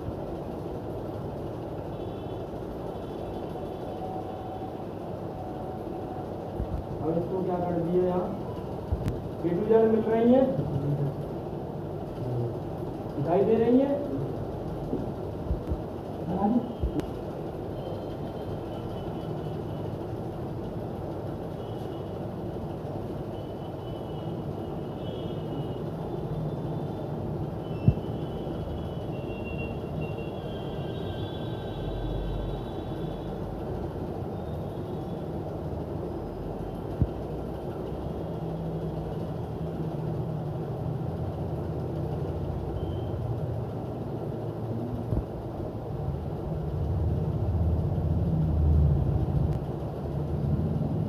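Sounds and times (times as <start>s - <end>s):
hot-air station blowing hum: 0.0s - 51.0s.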